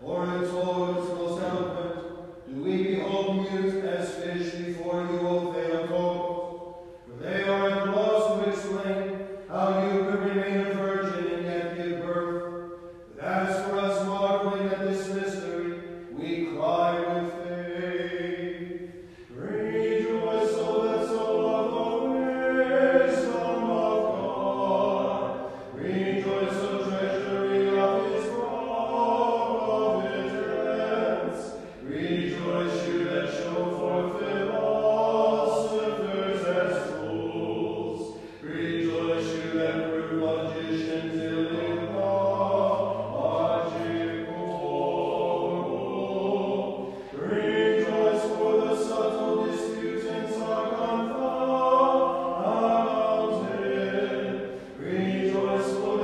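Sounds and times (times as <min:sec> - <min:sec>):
choir singing a cappella chant: 0:00.0 - 0:56.0.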